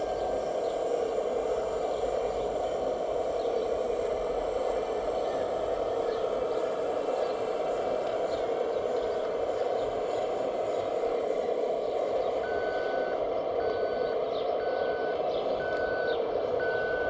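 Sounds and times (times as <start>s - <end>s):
model motor whirring: 0.0s - 13.8s.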